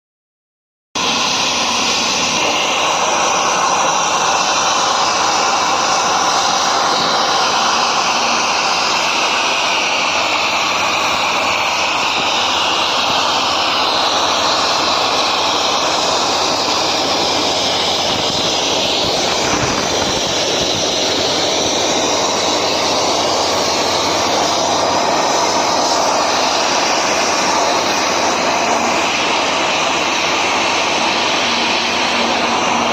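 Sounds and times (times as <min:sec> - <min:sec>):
plasma cutter torch hissing: 0:01.0 - 0:32.9.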